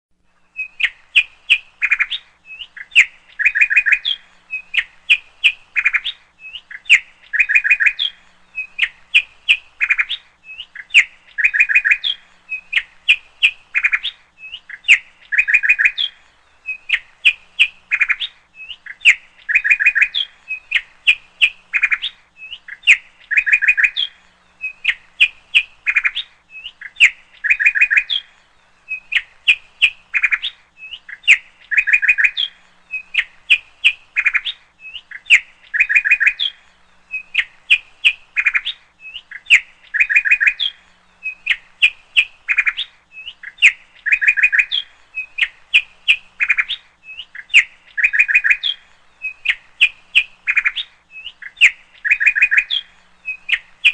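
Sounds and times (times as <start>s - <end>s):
bird chirping: 0.1s - 53.9s.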